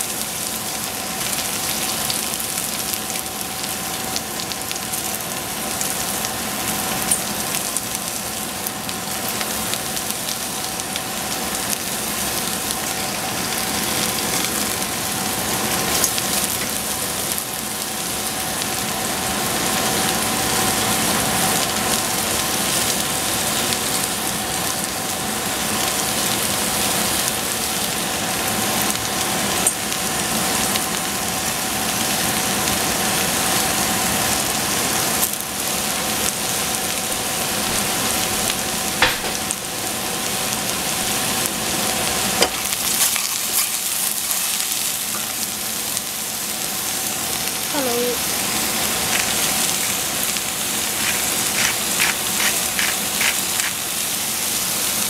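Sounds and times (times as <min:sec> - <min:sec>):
mushrooms sizzling in a pot: 0:00.0 - 0:55.0.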